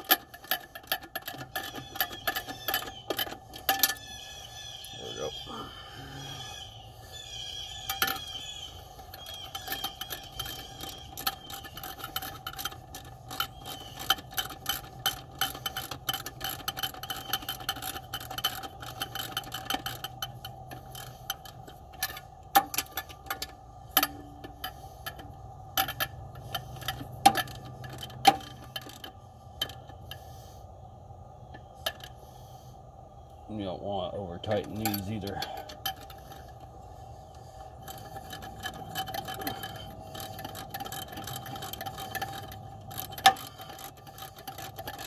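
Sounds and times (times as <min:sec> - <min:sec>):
ratchet wrench clicking: 0:00.0 - 0:04.4, 0:07.6 - 0:30.5, 0:34.5 - 0:45.0.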